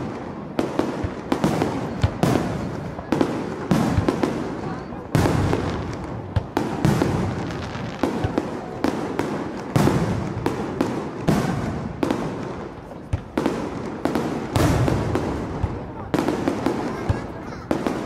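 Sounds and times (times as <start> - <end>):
firework bangs with echoing rumble: 0.0 - 18.0.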